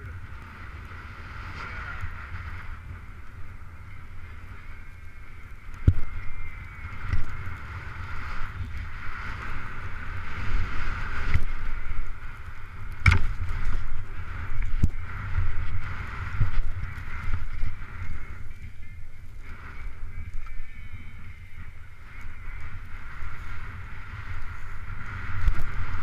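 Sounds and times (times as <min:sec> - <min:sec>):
skis scraping over snow: 0:00.0 - 0:26.0
wind buffeting microphone: 0:00.0 - 0:26.0.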